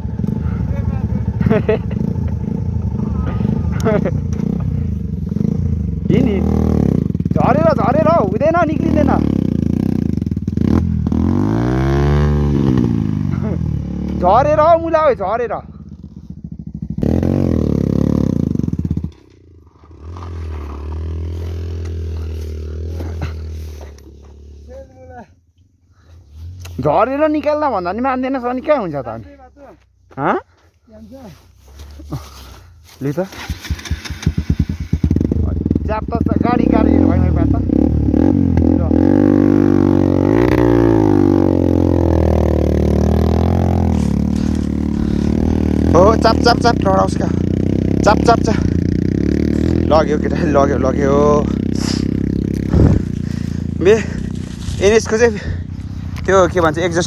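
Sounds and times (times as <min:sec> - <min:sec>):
motorcycle engine revving: 0:00.0 - 0:25.2, 0:25.9 - 0:29.2, 0:33.2 - 0:57.0.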